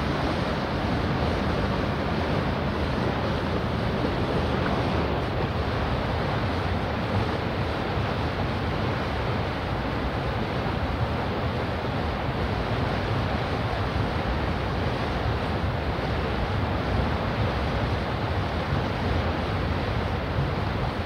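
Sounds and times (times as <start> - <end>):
water wash: 0.0 - 21.0
wind noise: 0.0 - 21.0.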